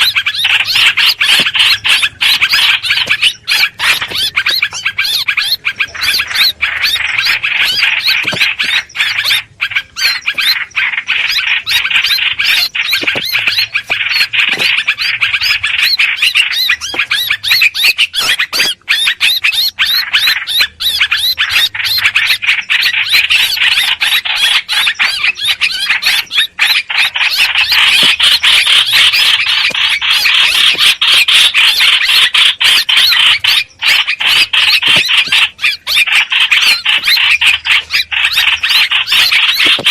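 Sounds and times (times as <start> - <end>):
birds chattering harshly: 0.0 - 39.9.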